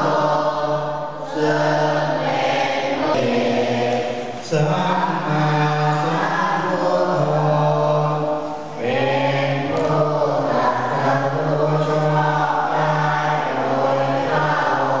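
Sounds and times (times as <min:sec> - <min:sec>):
monks chanting in unison: 0:00.0 - 0:15.0.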